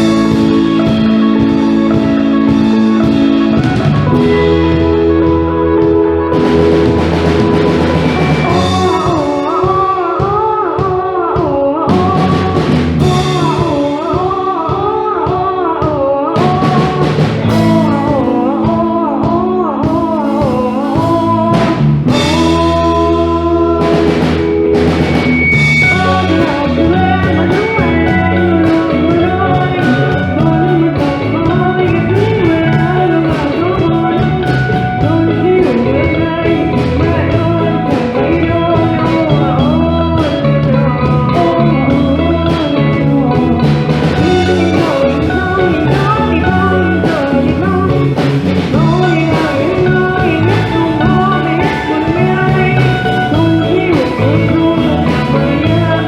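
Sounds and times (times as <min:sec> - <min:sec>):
band playing: 0:00.0 - 0:56.0
drum kit: 0:00.0 - 0:56.0
guitar: 0:00.0 - 0:56.0
person singing with vibrato: 0:00.0 - 0:56.0.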